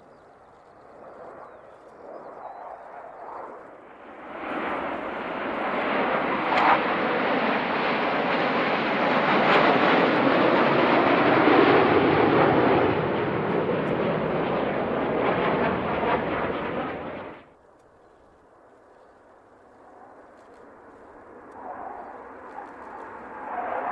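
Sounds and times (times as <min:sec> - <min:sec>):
jet engines flypast: 0:00.0 - 0:23.9.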